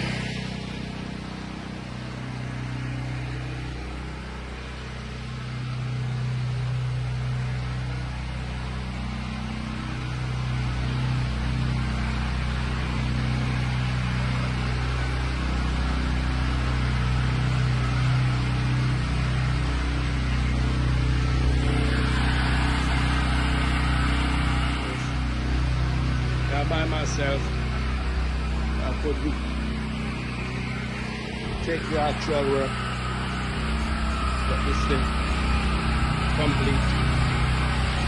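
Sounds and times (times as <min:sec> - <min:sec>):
pressure washer engine running: 0:00.0 - 0:38.0.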